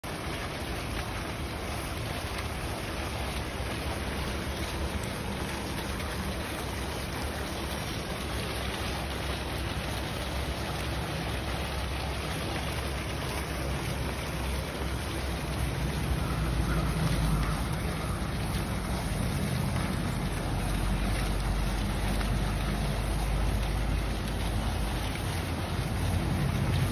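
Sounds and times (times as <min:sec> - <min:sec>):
fountain water splashing: 0:00.0 - 0:26.9.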